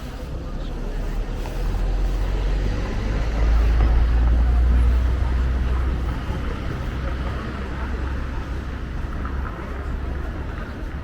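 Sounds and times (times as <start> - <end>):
outdoor background noise: 0.0 - 11.0
road traffic rumble: 0.0 - 11.0.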